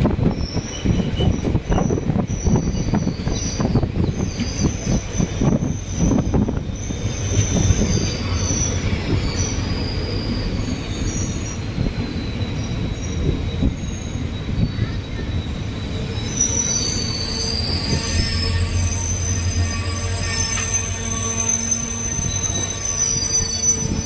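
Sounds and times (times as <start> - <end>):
train rumbling: 0.0 - 24.0
train wheels squealing on rails: 0.0 - 24.0.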